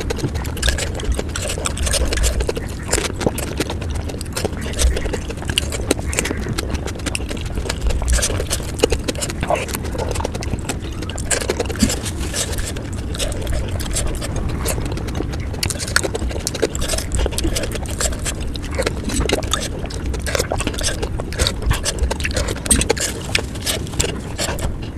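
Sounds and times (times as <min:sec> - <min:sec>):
crunchy food chewing: 0:00.0 - 0:24.9
low rumble: 0:00.0 - 0:24.9.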